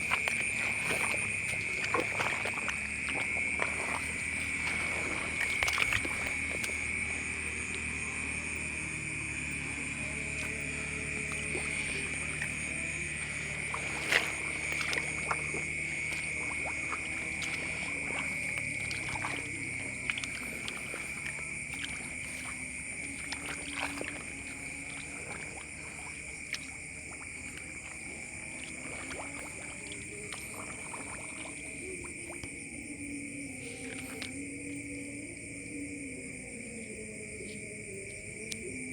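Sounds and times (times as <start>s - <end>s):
chorus of calling animals: 0.0s - 38.9s.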